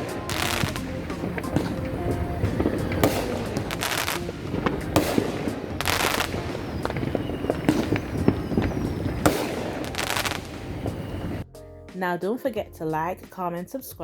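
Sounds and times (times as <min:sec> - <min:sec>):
fireworks popping and banging: 0:00.0 - 0:11.4
hissing crackling firework bursts: 0:00.0 - 0:11.4.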